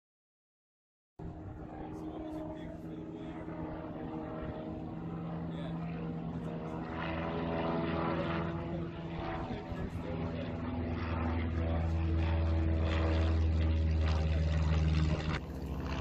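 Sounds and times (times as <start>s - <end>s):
propeller airplane engine droning: 1.2s - 16.0s.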